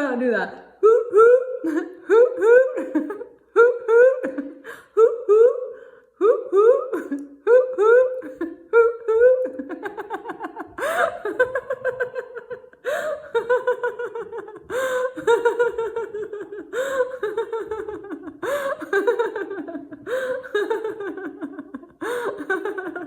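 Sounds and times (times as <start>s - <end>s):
woman laughing hard: 0.9s - 5.5s, 6.5s - 23.0s.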